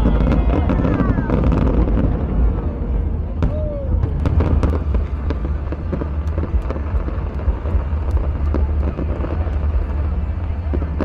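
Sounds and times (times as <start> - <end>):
crowd noise: 0.0 - 11.0
fireworks popping and crackling: 0.0 - 11.0
steady low rumble: 0.0 - 11.0.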